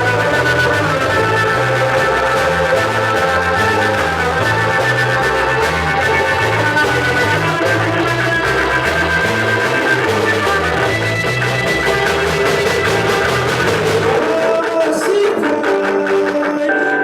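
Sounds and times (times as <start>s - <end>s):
bass guitar line: 0.0s - 17.0s
drum kit: 0.0s - 17.0s
electric guitars: 0.0s - 17.0s.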